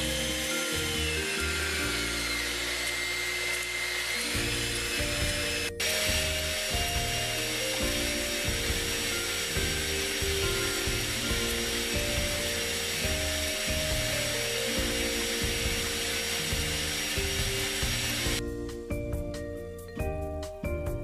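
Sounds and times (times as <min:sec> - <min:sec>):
stand mixer motor running: 0:00.0 - 0:18.4
wire whisk beating: 0:00.0 - 0:18.4
background music: 0:00.0 - 0:21.0.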